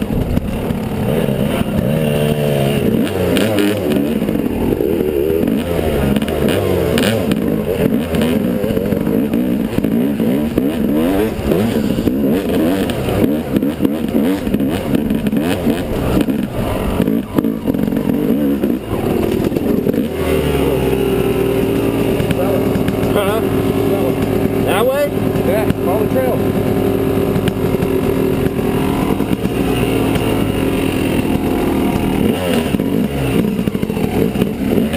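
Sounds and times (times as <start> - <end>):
dirt bike engine revving: 0.0 - 34.9
rattles and knocks from bike: 0.0 - 34.9.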